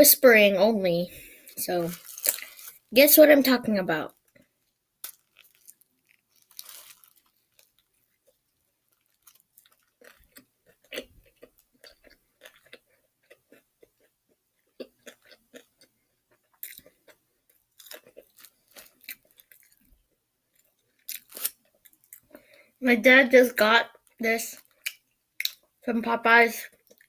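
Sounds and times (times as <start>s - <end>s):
person chewing crispy food: 1.2s - 2.9s, 4.1s - 22.8s, 23.8s - 25.8s, 26.7s - 27.0s.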